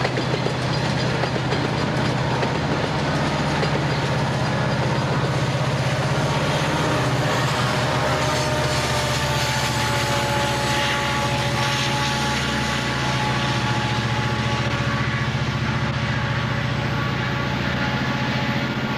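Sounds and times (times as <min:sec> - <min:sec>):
diesel locomotive engine drone: 0:00.0 - 0:18.9.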